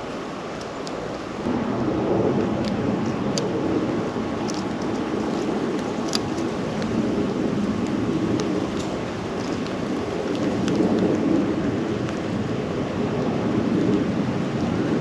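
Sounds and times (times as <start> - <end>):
wind rush on microphone: 0.0 - 15.0.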